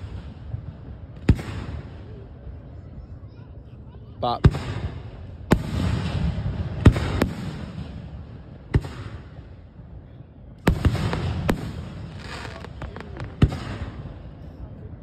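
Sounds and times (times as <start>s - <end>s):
crackling firework stars: 0.0s - 3.0s, 4.4s - 15.0s.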